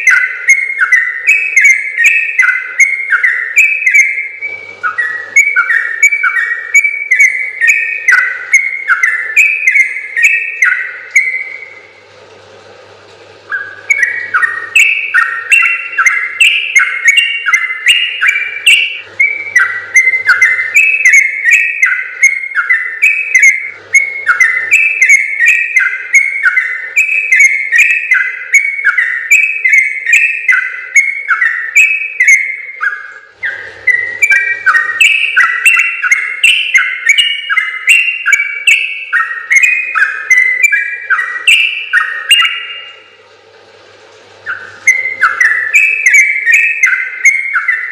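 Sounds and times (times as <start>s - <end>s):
bird warbling song: 0.0s - 12.0s, 13.4s - 43.2s, 44.4s - 47.9s.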